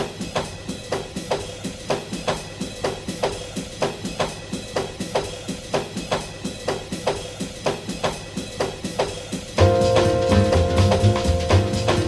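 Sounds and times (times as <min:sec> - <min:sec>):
music with drum-kit beat: 0:00.0 - 0:12.0.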